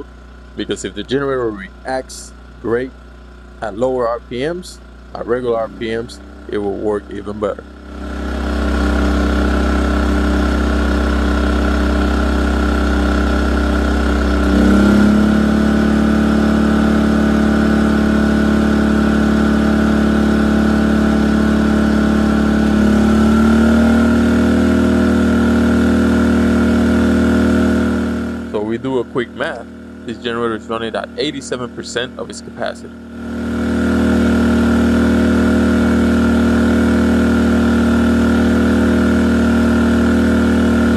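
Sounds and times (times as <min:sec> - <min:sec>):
generator engine running: 0:00.0 - 0:40.9.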